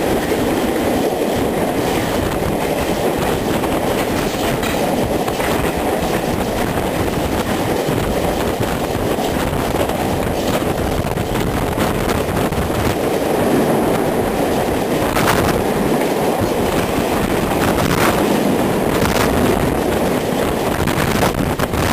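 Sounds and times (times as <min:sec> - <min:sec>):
passing train rushing: 0:00.0 - 0:21.9
train wheels rumbling on rails: 0:00.0 - 0:21.9
wheels clacking over rail joints: 0:00.0 - 0:21.9.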